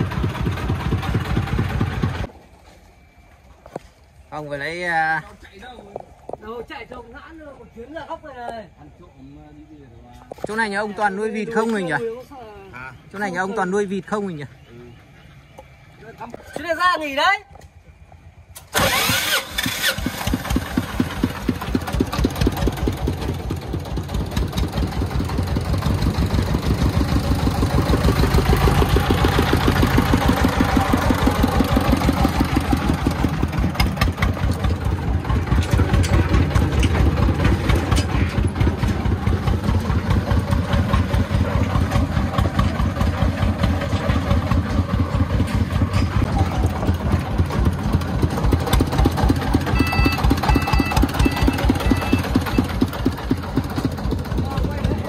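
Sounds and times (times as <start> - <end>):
diesel engine chugging: 0.0 - 2.4, 4.2 - 55.0.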